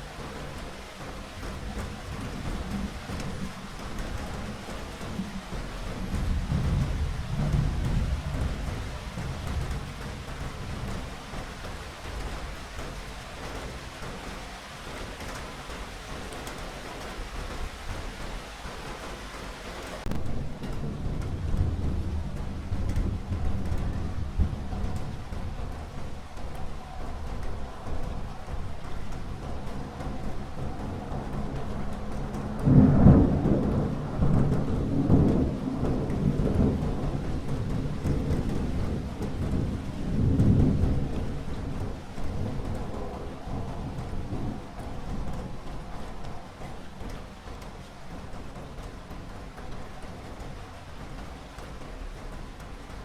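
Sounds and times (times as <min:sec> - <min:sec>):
low thunder rumble: 0:00.0 - 0:18.9, 0:19.9 - 0:53.0
heavy rain falling: 0:00.0 - 0:53.0.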